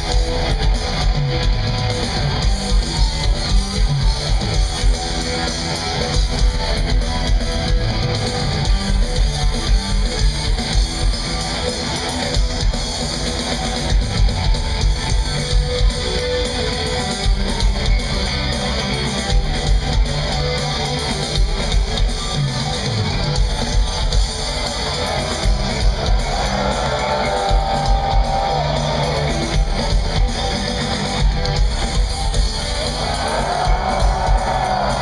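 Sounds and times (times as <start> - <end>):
heavy metal band playing live: 0.0 - 35.0.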